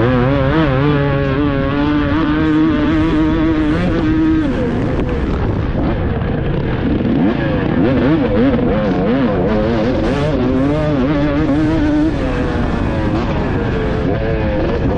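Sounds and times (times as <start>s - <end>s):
motocross bike engine revving: 0.0s - 14.9s.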